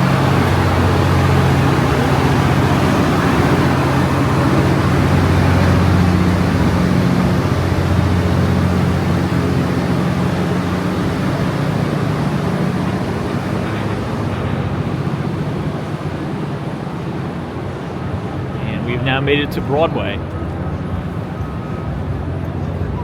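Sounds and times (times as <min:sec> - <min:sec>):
street noise: 0:00.0 - 0:23.0
vehicle engine hum: 0:00.0 - 0:23.0.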